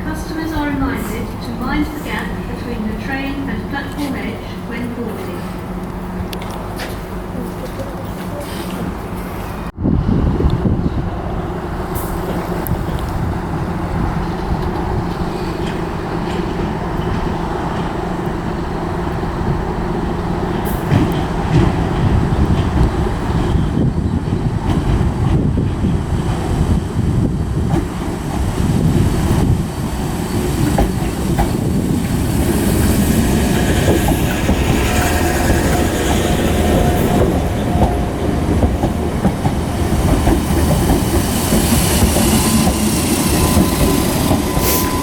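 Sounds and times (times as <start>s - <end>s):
train rumble: 0.0s - 45.0s.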